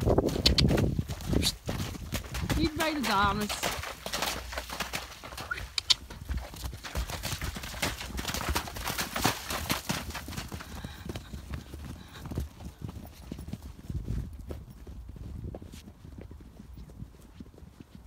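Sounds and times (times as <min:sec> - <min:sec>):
horse hooves on muddy ground: 0:00.0 - 0:18.0.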